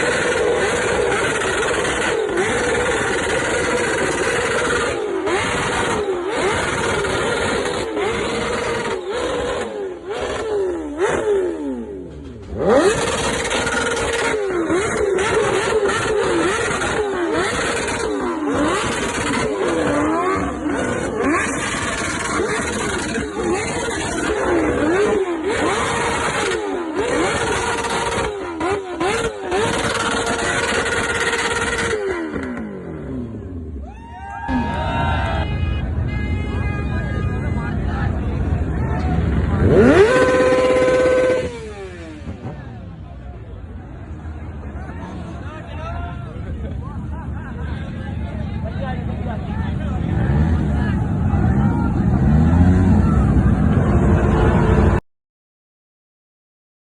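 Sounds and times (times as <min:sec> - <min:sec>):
motorcycle engine revving: 0:00.0 - 0:33.8, 0:35.6 - 0:55.0.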